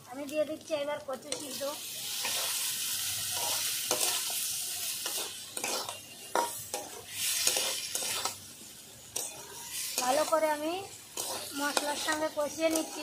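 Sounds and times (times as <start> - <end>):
food sizzling in hot oil: 0.0 - 13.0
metal spatula scraping a pan: 1.3 - 8.4, 9.0 - 13.0.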